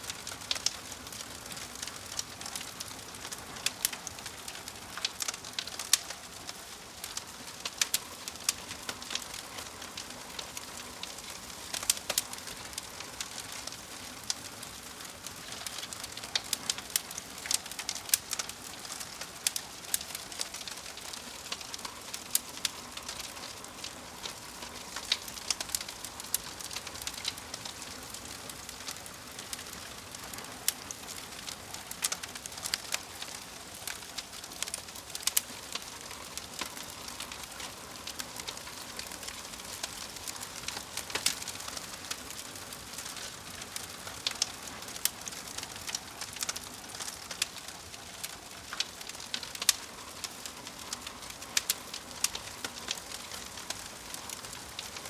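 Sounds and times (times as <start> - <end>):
fire hiss: 0.0 - 55.0
wood fire snaps and pops: 0.0 - 55.0.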